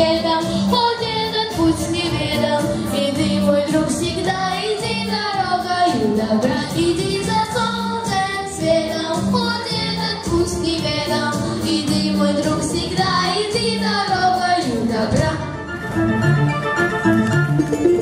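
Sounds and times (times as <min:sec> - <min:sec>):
girls singing together: 0:00.0 - 0:15.4
instrumental accompaniment: 0:00.0 - 0:18.0.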